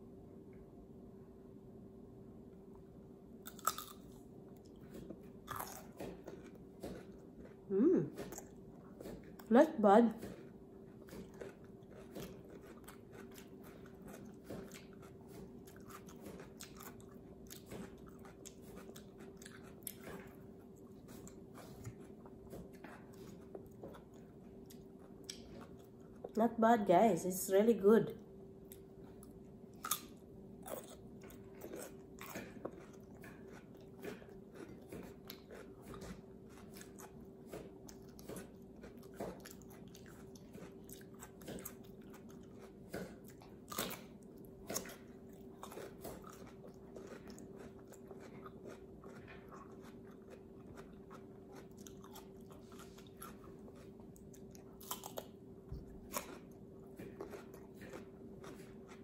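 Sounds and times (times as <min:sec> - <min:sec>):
faint steady hum: 0:00.0 - 0:59.0
crunchy chewing of cucumber: 0:03.3 - 0:26.4, 0:28.4 - 0:59.0.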